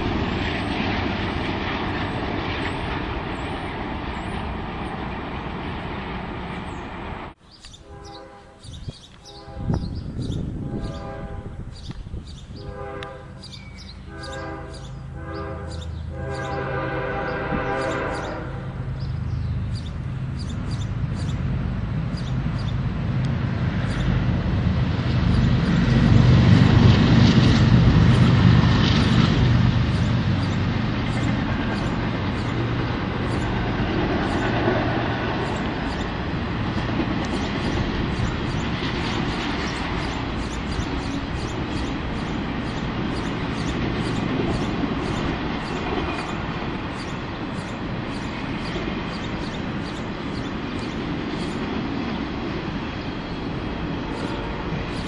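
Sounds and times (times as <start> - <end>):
diesel locomotive passing: 0.0 - 55.0
train wheels rolling on rails: 0.0 - 55.0.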